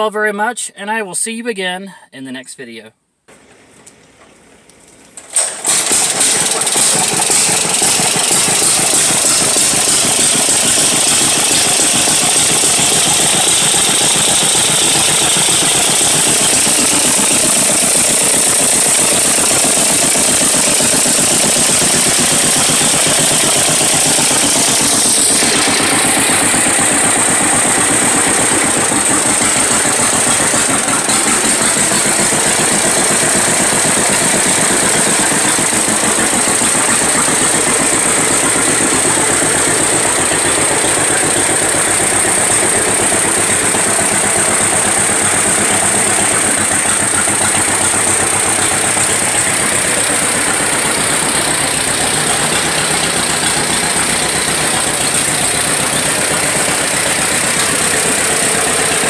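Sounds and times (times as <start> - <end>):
tractor engine starting and running: 3.3 - 59.0.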